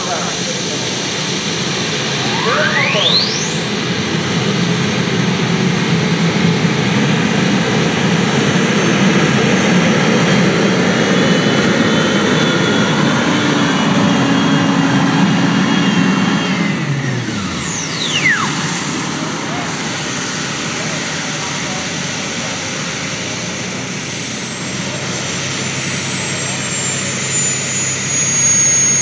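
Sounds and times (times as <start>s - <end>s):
tractor engine high whine: 0.0s - 29.0s.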